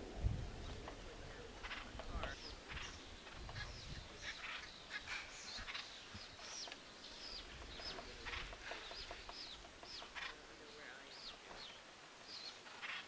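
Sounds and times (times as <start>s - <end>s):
woodpeckers calling: 0.6s - 13.0s
harsh bird chatter: 0.8s - 13.0s.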